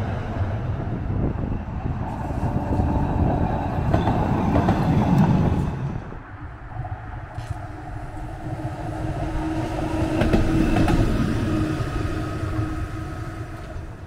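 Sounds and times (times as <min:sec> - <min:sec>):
electric tram passing on rails: 0:00.0 - 0:14.0.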